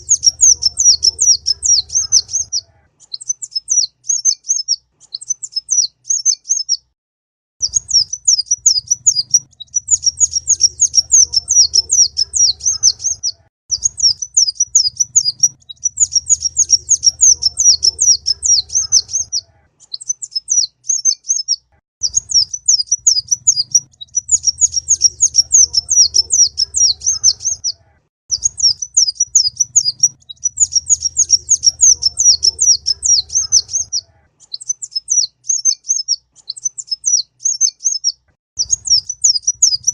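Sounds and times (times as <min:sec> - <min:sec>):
sunbird chattering trills: 0:00.0 - 0:06.7, 0:07.6 - 0:38.0, 0:38.6 - 0:39.9.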